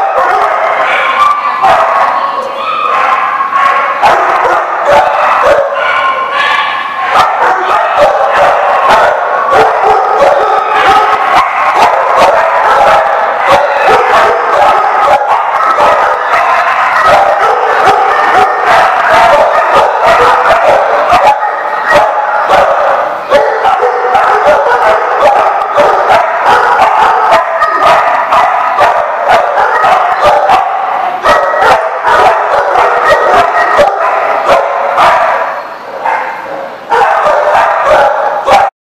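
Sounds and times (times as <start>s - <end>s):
dogs barking: 0.0s - 38.7s.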